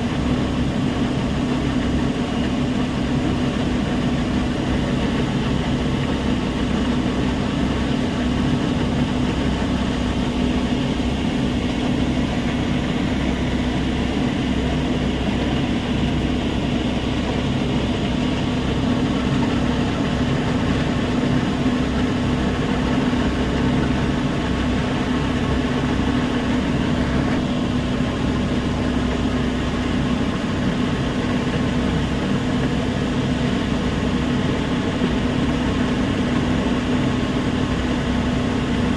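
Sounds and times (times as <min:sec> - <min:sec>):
heavy machinery humming: 0:00.0 - 0:38.9.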